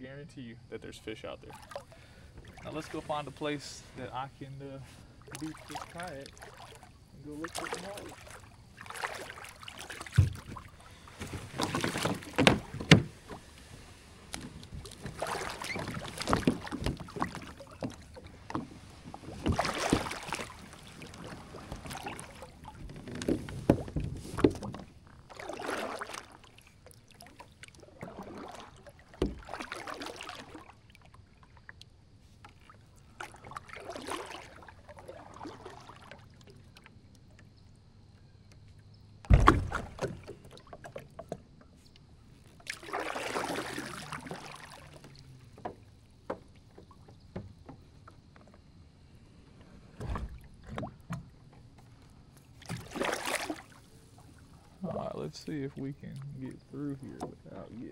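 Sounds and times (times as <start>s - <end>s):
paddle swishing through water: 1.4s - 37.3s, 39.3s - 57.9s.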